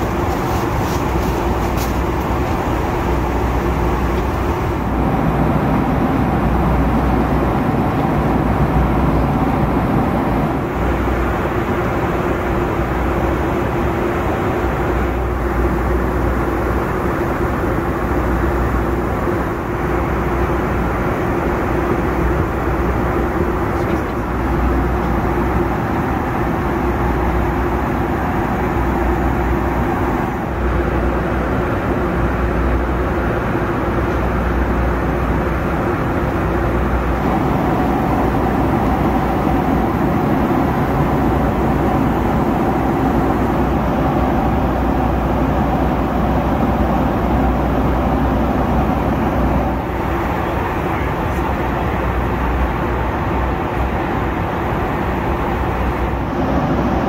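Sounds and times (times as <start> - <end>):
airplane cabin airflow rush: 0.0 - 57.0
engine hum: 0.0 - 57.0.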